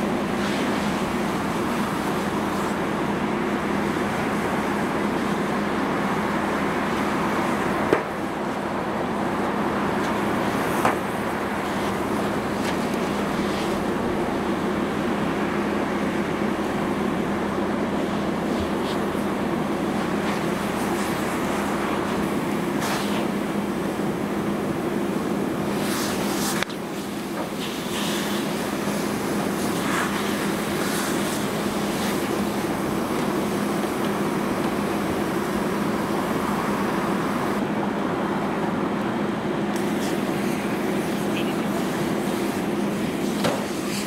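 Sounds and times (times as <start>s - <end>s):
fire hose hissing: 0.0s - 37.7s, 39.7s - 44.0s
fire engine pump drone: 0.0s - 44.0s.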